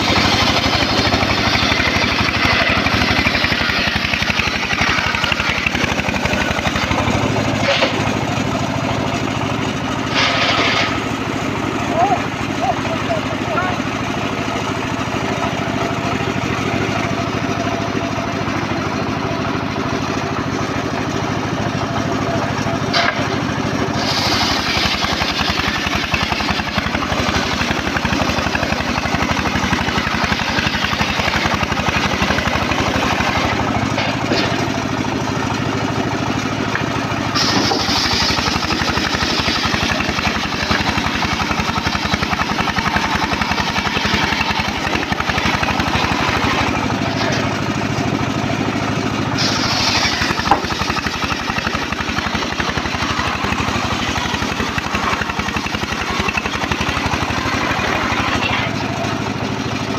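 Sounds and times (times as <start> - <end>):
saw engine running: 0.0 - 59.9.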